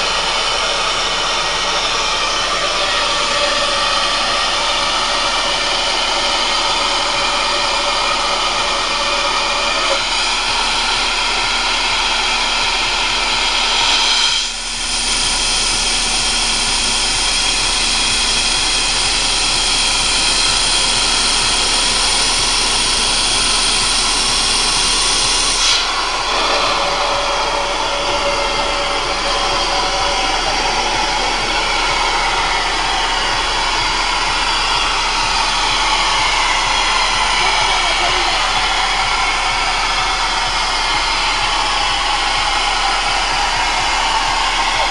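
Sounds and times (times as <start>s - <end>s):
rock drill hissing and roaring: 0.0s - 44.9s.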